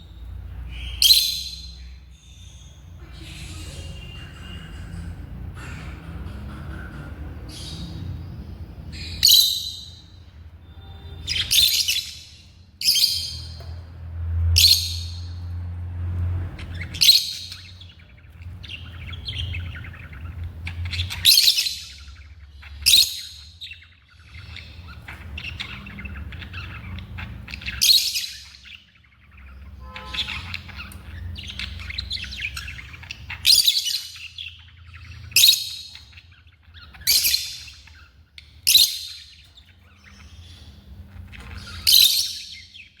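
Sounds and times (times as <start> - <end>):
lovebirds chirping: 0.0 - 43.0.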